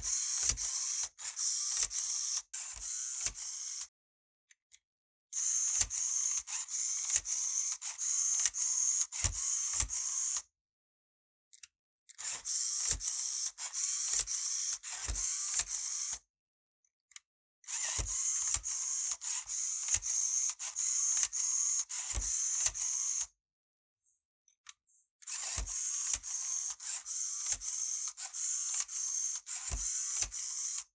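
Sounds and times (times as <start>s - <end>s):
toy motor whirring with clicks: 0.0s - 3.9s, 4.7s - 10.6s, 11.5s - 16.3s, 17.1s - 23.4s, 24.0s - 30.9s.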